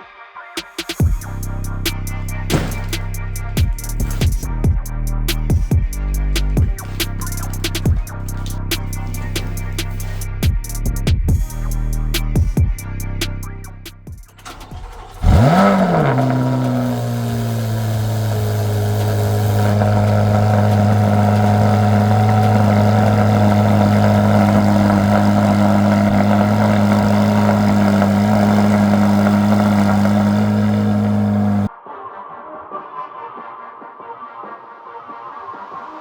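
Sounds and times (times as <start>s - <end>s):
car engine starting and idling: 1.0s - 31.7s.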